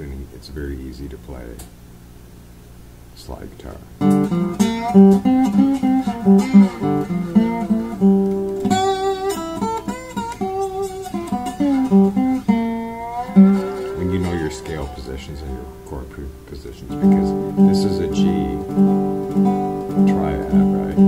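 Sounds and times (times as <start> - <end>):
slide acoustic guitar blues: 4.0 - 21.0.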